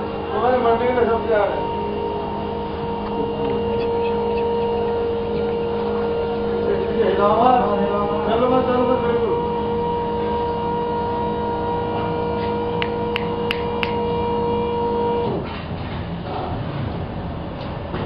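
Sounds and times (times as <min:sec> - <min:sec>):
electric motor and pump humming: 0:00.0 - 0:18.0.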